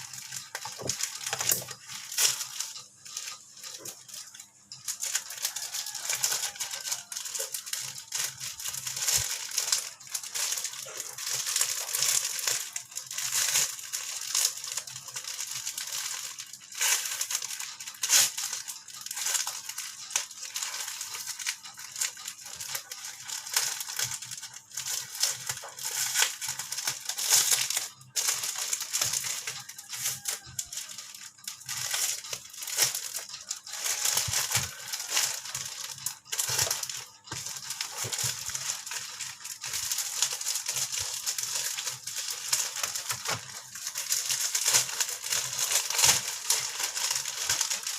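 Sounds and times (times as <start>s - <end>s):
packaging crinkling: 0.0s - 47.9s.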